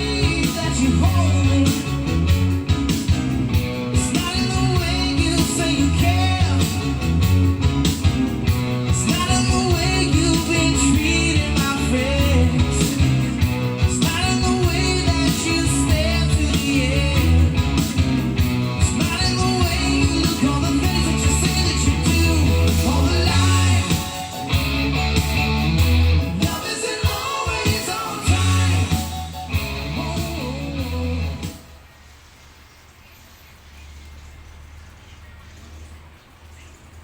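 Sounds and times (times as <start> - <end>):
rock song with singing: 0.0 - 31.9.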